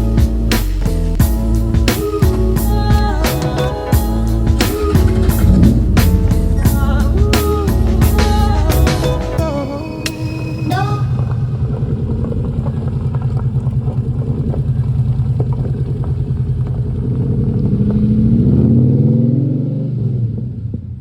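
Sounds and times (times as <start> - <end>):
sports car engine throbbing: 0.0 - 21.0.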